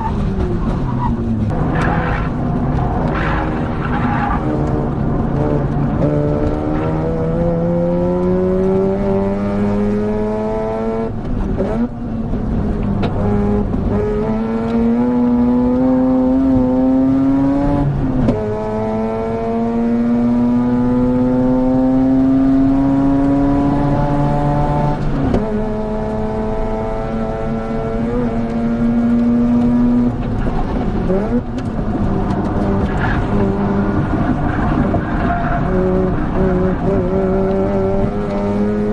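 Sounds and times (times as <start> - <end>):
rotary engine accelerating: 0.0 - 11.9, 12.9 - 38.9.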